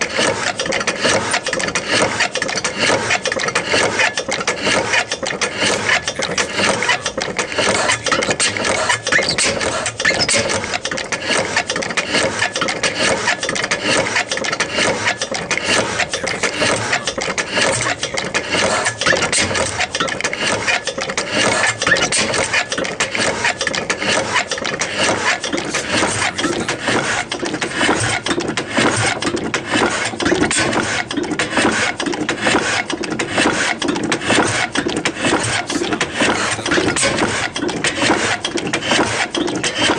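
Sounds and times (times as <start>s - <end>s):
steam engine clattering: 0.0s - 39.9s.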